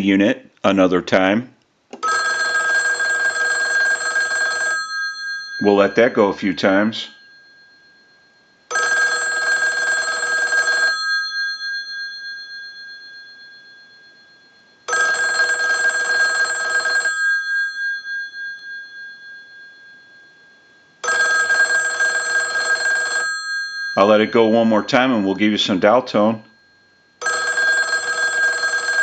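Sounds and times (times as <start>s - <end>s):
telephone bells ringing: 2.0s - 29.0s.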